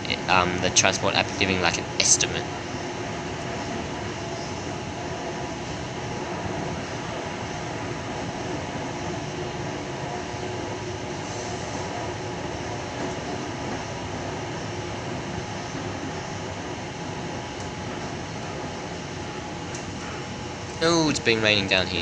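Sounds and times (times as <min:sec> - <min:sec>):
faint motor hum: 0:00.0 - 0:22.0.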